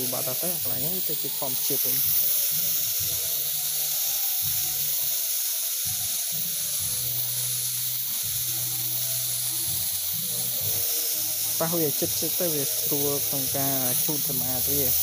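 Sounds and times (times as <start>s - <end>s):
spray gun hissing: 0.0s - 15.0s.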